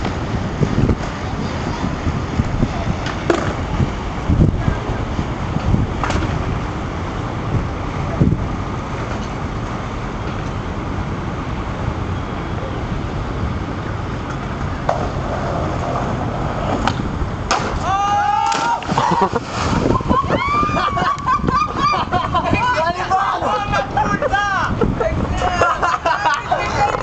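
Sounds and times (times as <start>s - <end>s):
distant traffic rumble: 0.0s - 27.0s.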